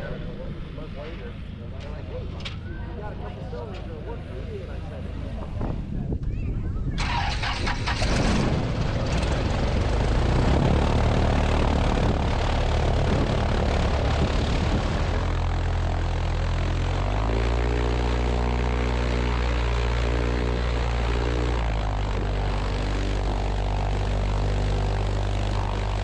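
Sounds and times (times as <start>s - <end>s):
aircraft engine and propeller: 0.0s - 26.0s.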